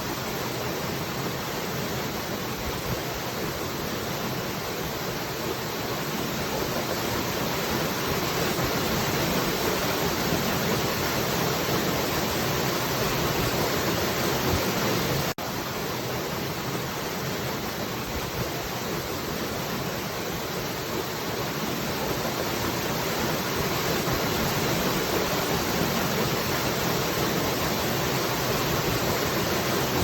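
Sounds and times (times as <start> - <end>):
falling water rushing: 0.0 - 30.0.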